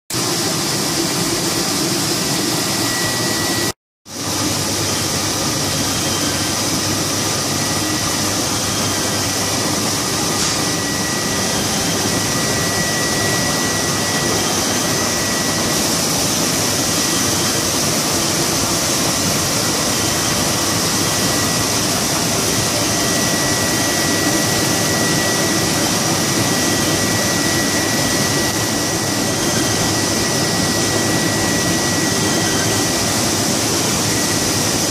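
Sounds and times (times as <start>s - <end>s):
printing press whirring: 0.2s - 34.9s
thin high whine: 0.2s - 34.9s.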